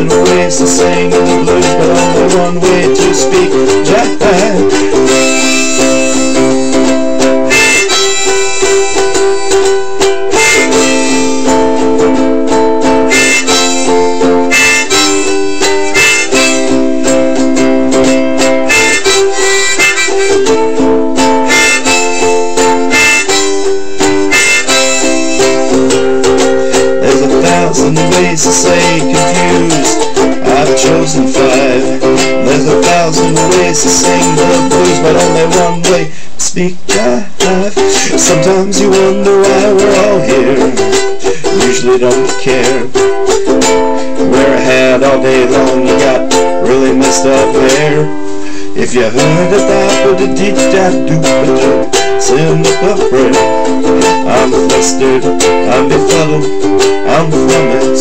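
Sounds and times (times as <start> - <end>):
harmonica chords: 0.0 - 58.0
ukulele strumming: 0.0 - 58.0.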